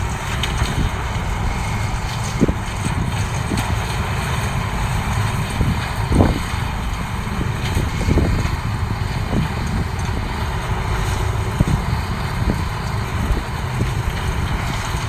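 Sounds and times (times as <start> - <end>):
combine harvester engine rumbling: 0.0 - 15.0.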